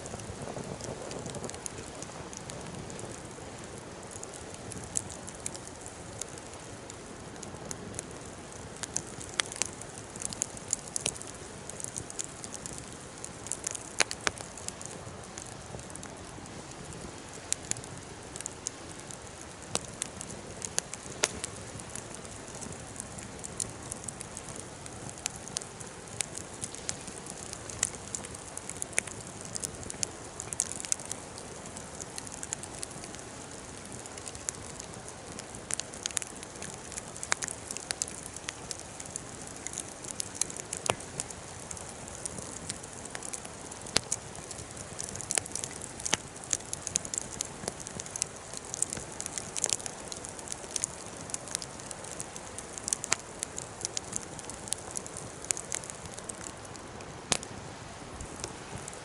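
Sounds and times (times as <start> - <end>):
steady hiss: 0.0 - 59.0
wood fire crackling and popping: 0.0 - 59.0.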